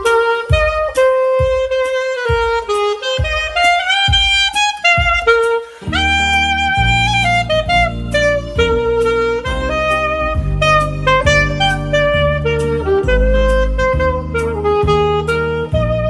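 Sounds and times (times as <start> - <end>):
alto saxophone melody: 0.0 - 16.0
low bass notes: 0.0 - 16.0.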